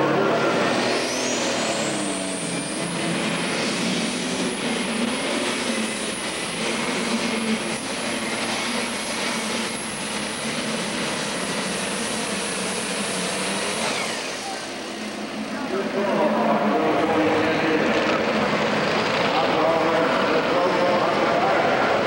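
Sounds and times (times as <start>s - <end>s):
tractor engine at full throttle: 0.0s - 22.0s
turbocharger whine: 0.0s - 22.0s.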